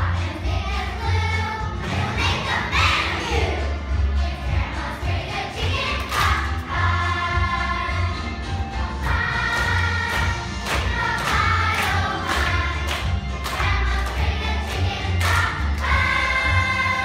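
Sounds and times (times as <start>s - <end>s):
children singing together: 0.0s - 17.0s
music with steady beat: 0.0s - 17.0s.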